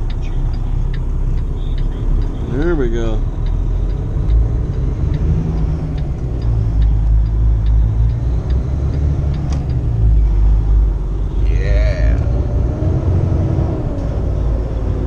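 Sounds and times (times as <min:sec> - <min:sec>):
turn signal ticking: 0:00.0 - 0:12.6
truck engine and road rumble: 0:00.0 - 0:15.0.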